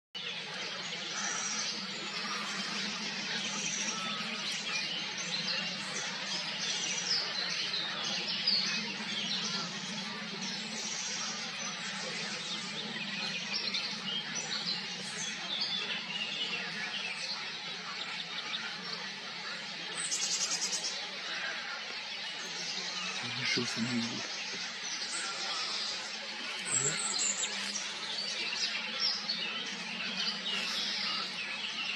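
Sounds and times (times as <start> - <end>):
songbirds chirping chorus: 0.2 - 31.9.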